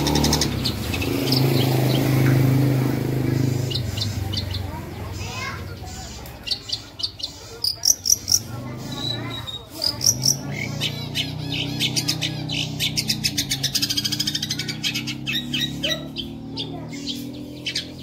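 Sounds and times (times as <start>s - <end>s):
bird singing chattering song: 0.0s - 18.0s.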